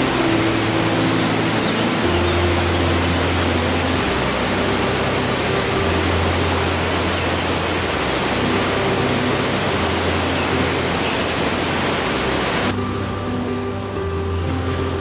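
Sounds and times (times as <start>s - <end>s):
low sustained tones: 0.0s - 15.0s
waterfall rushing: 0.0s - 15.0s.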